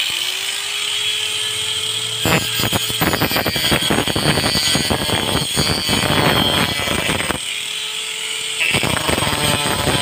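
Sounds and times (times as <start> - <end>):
angle grinder cutting wood: 0.0 - 10.0.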